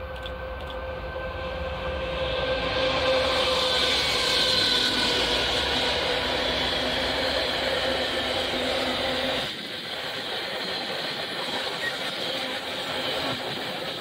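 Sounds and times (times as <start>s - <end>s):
droning hum: 0.0s - 14.0s
train wheels rumbling on rails: 0.0s - 14.0s.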